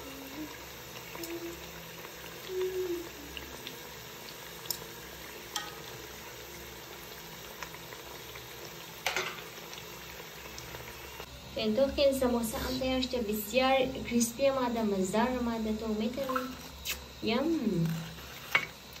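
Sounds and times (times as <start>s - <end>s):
deep-frying sizzle and bubbling: 0.0s - 19.0s.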